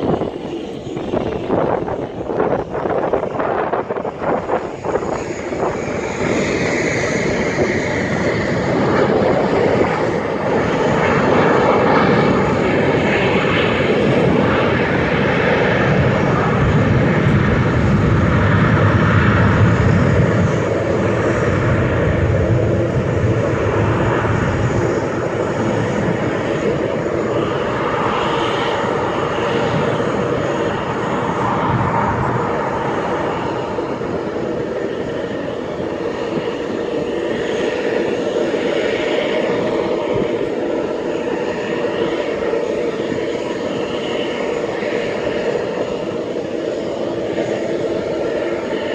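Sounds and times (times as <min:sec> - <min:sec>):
jet engines rumbling with hiss: 0:00.0 - 0:48.9.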